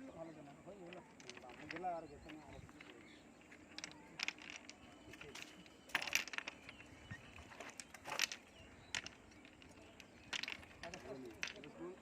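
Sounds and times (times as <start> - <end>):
hard objects clicking and clinking: 0.7 - 12.0.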